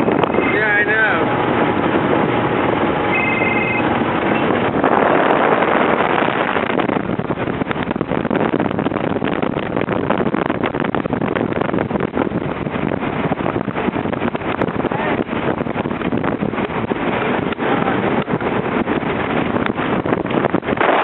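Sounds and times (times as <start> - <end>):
rushing water: 0.0 - 21.0
wind buffeting microphone: 0.0 - 21.0.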